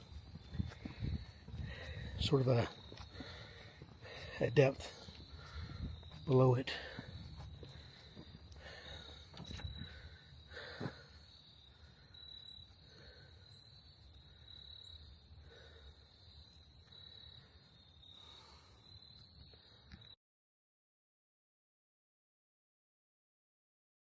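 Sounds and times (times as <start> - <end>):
footsteps on woodland path: 0.0 - 20.0
insects chirping: 0.0 - 20.2.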